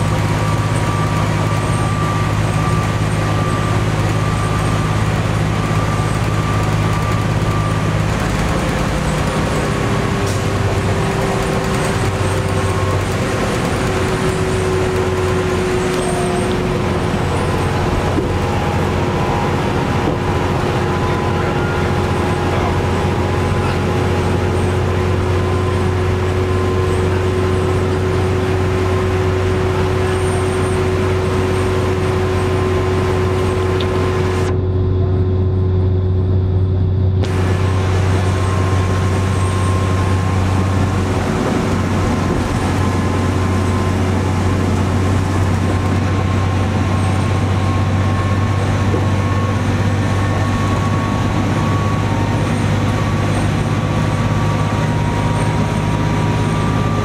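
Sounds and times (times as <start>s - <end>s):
bus engine drone: 0.0s - 57.0s
faint transmission whine: 0.0s - 57.0s.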